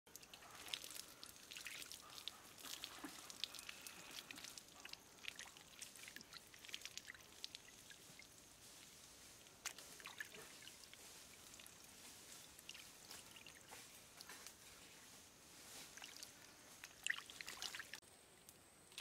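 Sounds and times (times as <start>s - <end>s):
water sloshing and dripping in a bowl: 0.1s - 14.6s, 15.6s - 18.0s.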